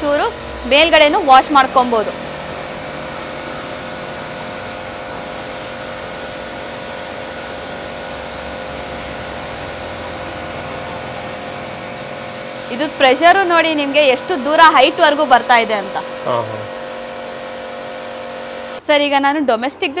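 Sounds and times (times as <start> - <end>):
pressure washer motor whine: 0.0 - 18.8
water jet hissing: 0.0 - 18.8.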